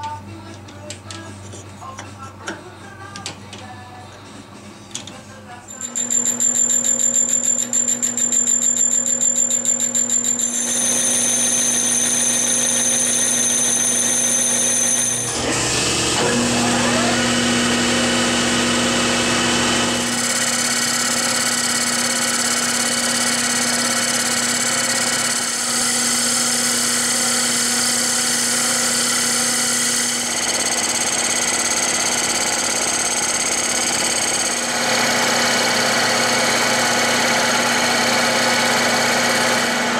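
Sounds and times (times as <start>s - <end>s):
metal lathe whining: 5.7s - 39.9s.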